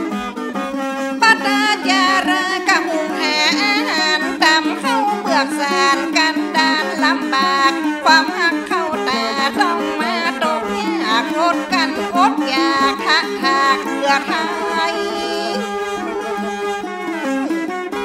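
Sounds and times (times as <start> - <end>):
bowed string melody: 0.0 - 18.0.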